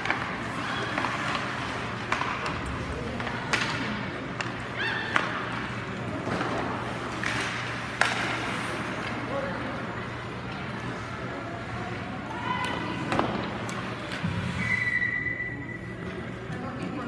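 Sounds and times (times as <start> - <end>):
murmur of spectators' voices: 0.0 - 17.0.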